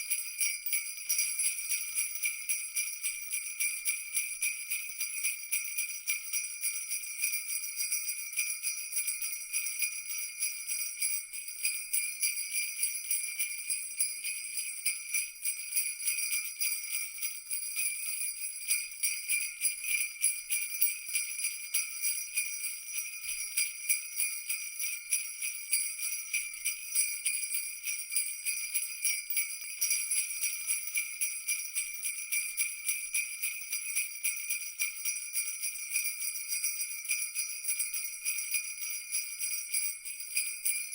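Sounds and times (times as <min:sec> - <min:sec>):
jingle bells shaken: 0:00.0 - 0:40.9.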